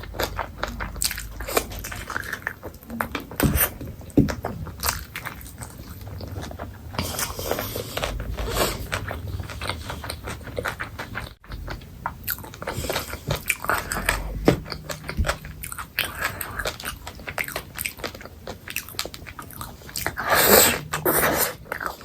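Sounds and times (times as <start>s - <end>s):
person chewing and crunching food: 0.0s - 22.0s.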